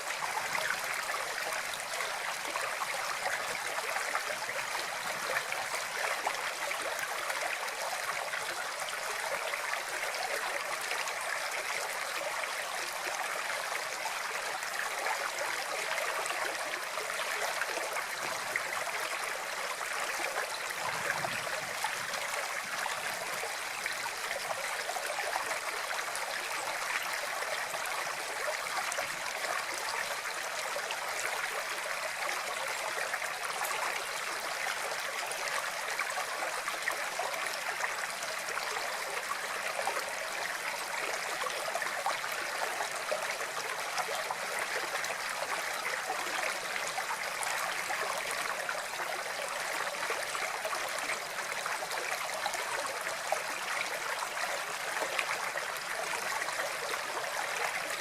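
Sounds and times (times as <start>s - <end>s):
stream of water rushing: 0.0s - 58.0s.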